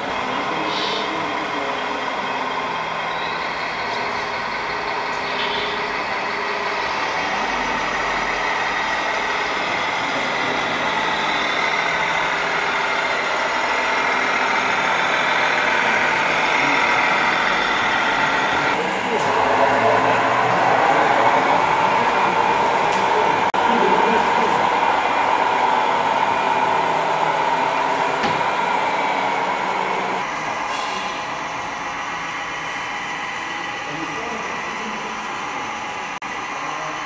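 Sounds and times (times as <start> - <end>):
simulated diesel truck engine: 0.0 - 37.0.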